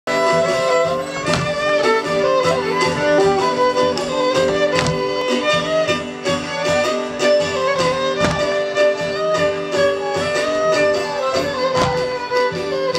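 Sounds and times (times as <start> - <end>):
violin folk dance music: 0.1 - 12.9.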